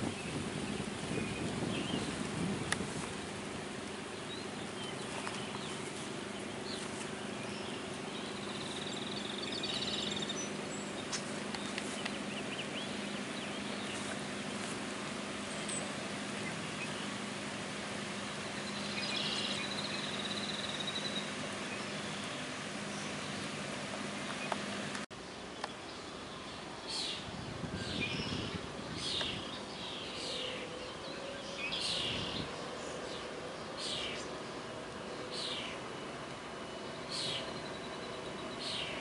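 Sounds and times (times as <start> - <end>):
birds chirping: 0.0 - 39.0
low machine hum: 0.0 - 39.0.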